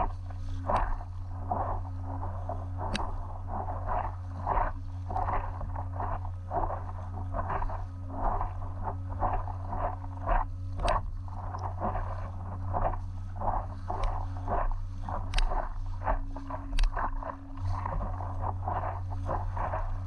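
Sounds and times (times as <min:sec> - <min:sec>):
low rumble: 0:00.0 - 0:20.0
water splashing against paddleboard: 0:00.0 - 0:20.0.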